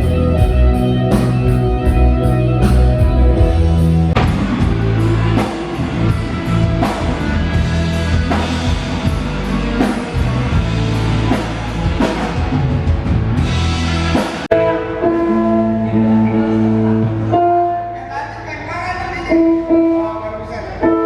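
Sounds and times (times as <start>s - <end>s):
held keyboard chords: 0.0s - 21.0s
rock band playing: 0.0s - 21.0s.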